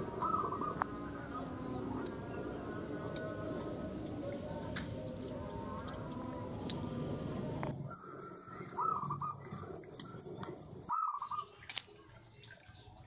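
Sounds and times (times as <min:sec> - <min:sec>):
high chirps from small birds: 0:00.0 - 0:11.6.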